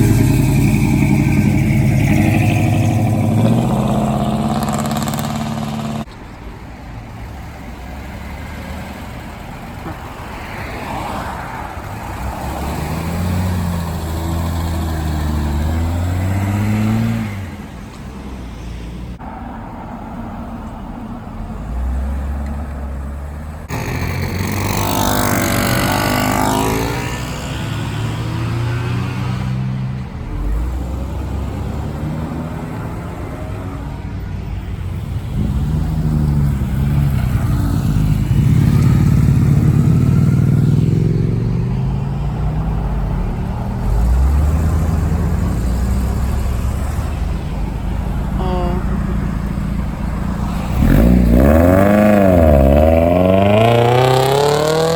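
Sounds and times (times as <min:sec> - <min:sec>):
cars accelerating past: 0:00.0 - 0:06.1, 0:07.7 - 0:18.4, 0:21.3 - 0:54.9.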